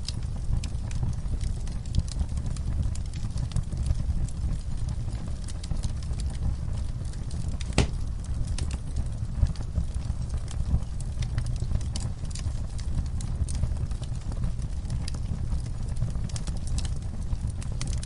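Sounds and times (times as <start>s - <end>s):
campfire crackling: 0.0s - 18.0s
low steady rumble: 0.0s - 18.0s.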